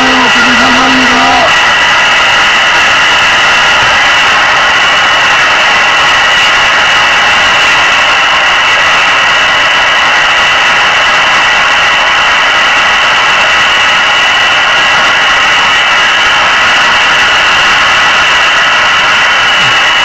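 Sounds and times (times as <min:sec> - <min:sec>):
radio receiver hiss: 0:00.0 - 0:20.0.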